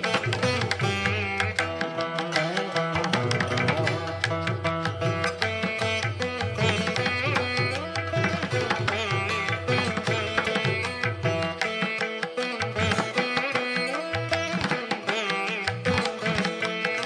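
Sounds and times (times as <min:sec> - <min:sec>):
hand drum rhythm: 0:00.0 - 0:17.0
plucked strings: 0:00.0 - 0:17.0.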